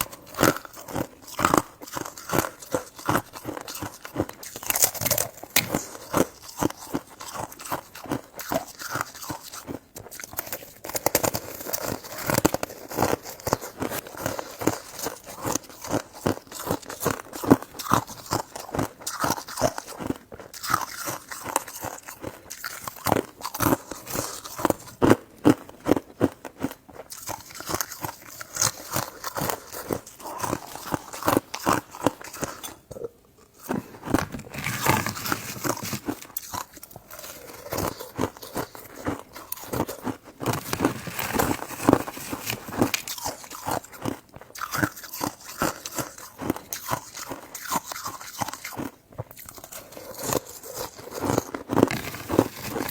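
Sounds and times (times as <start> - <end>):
person biting and chewing: 0.0 - 52.9.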